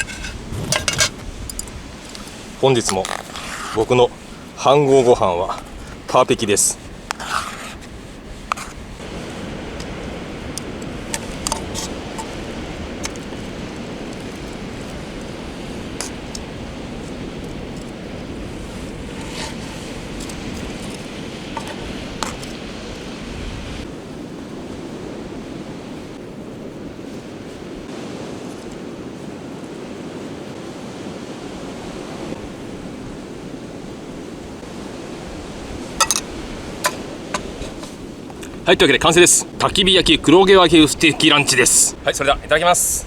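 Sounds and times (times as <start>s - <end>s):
sea waves washing on shore: 0.0s - 43.0s
wind buffeting microphone: 0.0s - 43.0s.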